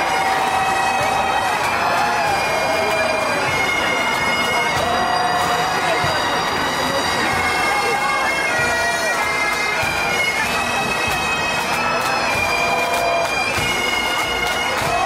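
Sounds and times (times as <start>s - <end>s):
bagpipes playing a tune: 0.0s - 15.0s.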